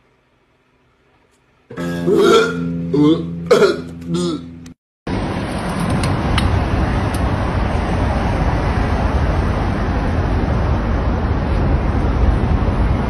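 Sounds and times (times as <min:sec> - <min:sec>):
street traffic rumble: 0:02.0 - 0:13.0.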